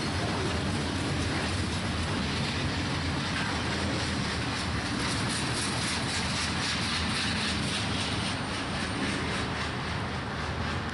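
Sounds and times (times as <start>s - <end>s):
faint rail clicking: 0.0s - 10.9s
freight train wheels rumbling on rail: 0.0s - 10.9s.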